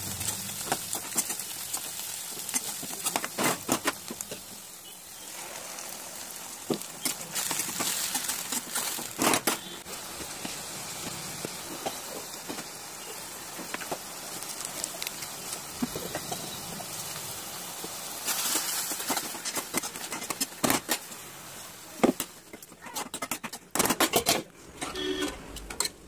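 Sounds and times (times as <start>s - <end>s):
onions sizzling in a pan: 0.0s - 23.0s.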